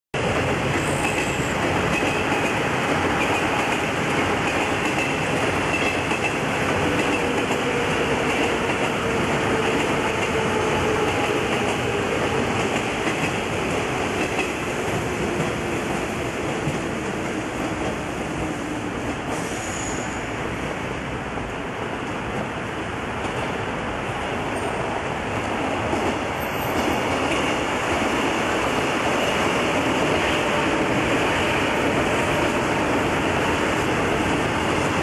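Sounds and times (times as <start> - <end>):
train wheels rumbling on rails: 0.2 - 35.0.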